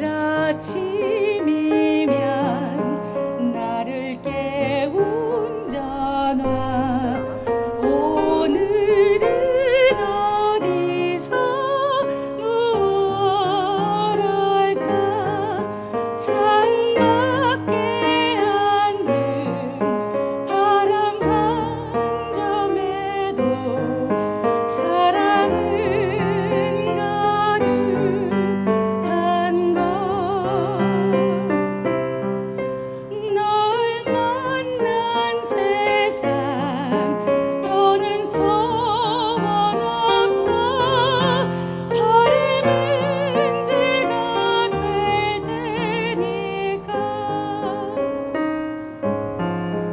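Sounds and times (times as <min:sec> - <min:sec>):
woman singing with vibrato: 0:00.0 - 0:31.5, 0:33.1 - 0:48.2.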